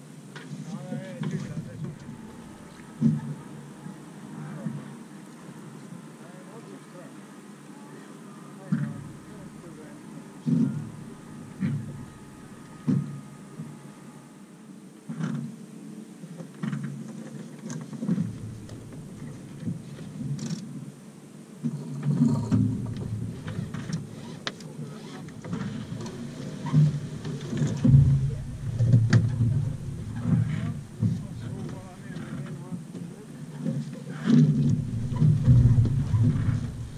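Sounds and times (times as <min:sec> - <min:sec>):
low uneven rumbling: 0:00.0 - 0:14.6, 0:16.7 - 0:20.9, 0:21.6 - 0:36.9.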